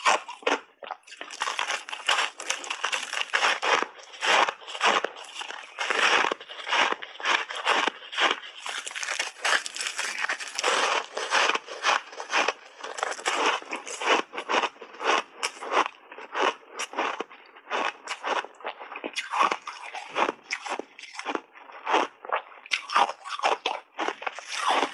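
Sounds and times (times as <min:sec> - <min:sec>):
ice being chewed and crunched: 0:00.0 - 0:24.9.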